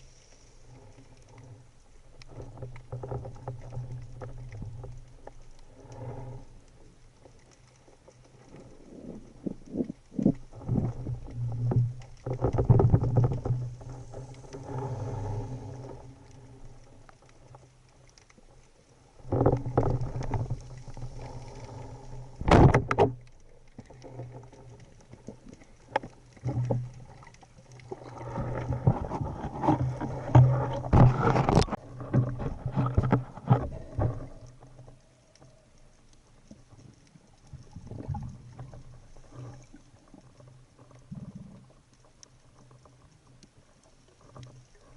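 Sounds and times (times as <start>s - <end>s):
water sloshing and bubbling: 0.0s - 44.9s.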